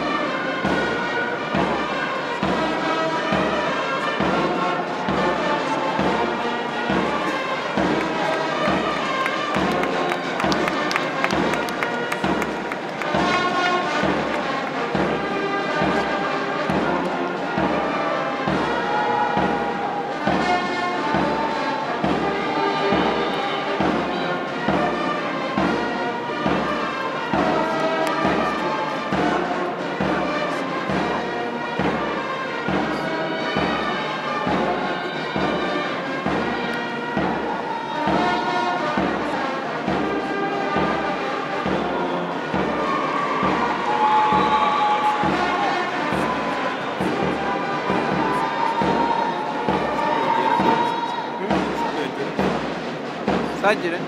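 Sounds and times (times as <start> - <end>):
brass band playing a march: 0.0 - 54.0.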